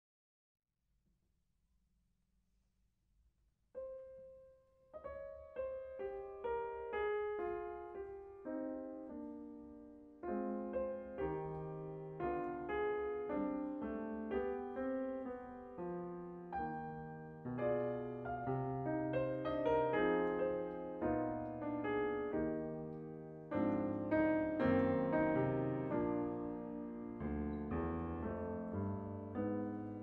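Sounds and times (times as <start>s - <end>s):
grand piano classical passage: 3.8s - 30.0s.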